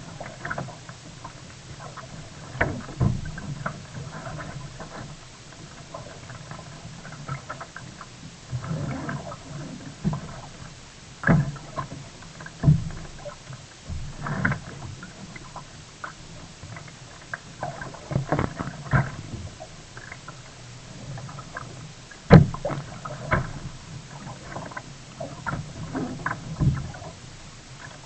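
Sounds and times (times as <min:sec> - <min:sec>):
paddle splashing in water: 0:00.0 - 0:28.0.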